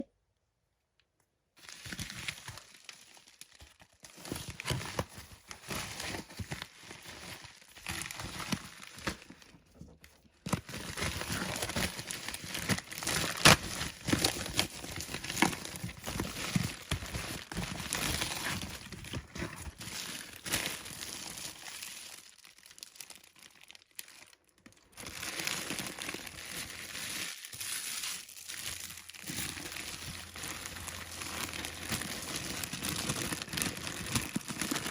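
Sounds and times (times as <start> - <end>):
packaging crinkling and rustling: 1.6 - 34.9.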